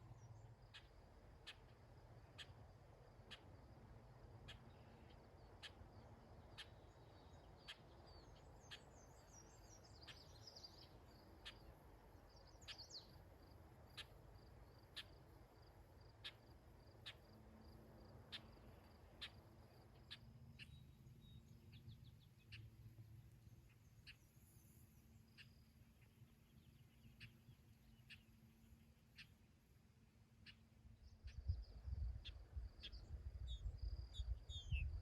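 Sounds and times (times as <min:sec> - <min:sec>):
low background hiss: 0:00.0 - 0:35.0.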